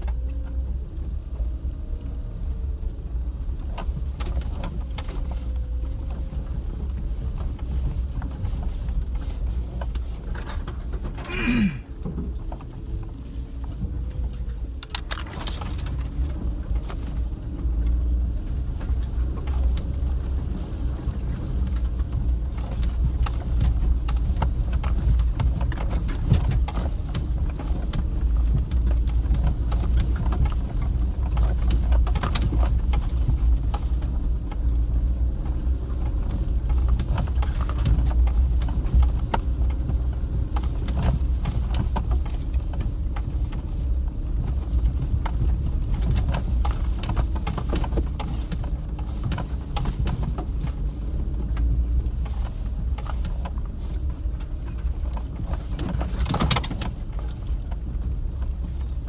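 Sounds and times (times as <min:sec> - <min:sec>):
low engine rumble: 0:00.0 - 0:59.0
vehicle rattling and knocking: 0:00.0 - 0:59.0.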